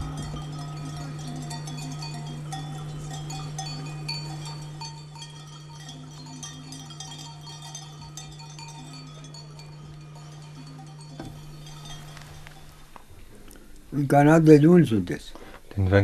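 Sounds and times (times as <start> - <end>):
sheep bells tinkling: 0.0 - 13.2
low hum: 0.0 - 14.0.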